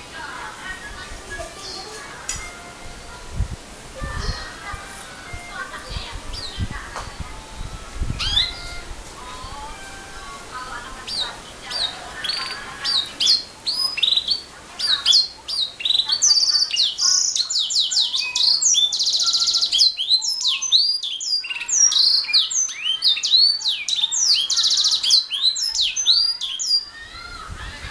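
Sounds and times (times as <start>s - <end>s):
canary singing trills: 1.0s - 3.2s, 4.0s - 27.9s.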